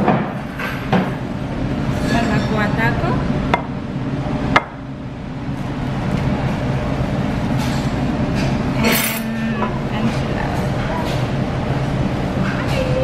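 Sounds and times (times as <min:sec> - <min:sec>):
restaurant background rumble: 0:00.0 - 0:13.0.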